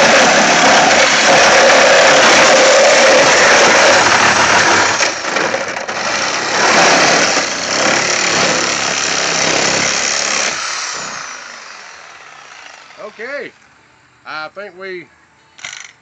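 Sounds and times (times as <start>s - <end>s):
reciprocating saw cutting sheet metal: 0.0s - 13.3s.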